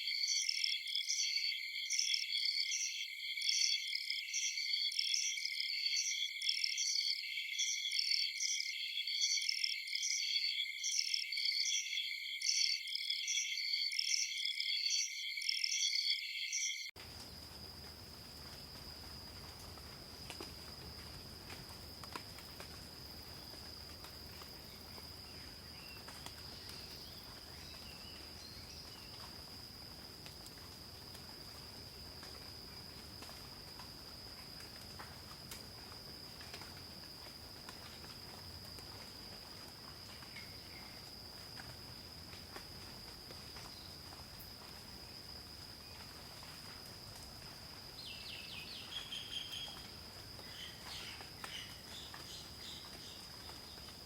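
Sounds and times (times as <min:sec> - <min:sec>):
faint chirps and ticks: 0:00.0 - 0:54.0
high-pitched insect trill: 0:00.0 - 0:54.0
pulsing cricket chorus: 0:00.0 - 0:54.0.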